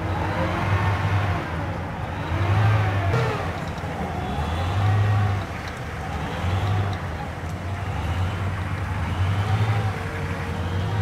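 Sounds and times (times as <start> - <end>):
tracked vehicle rumble: 0.0 - 11.0.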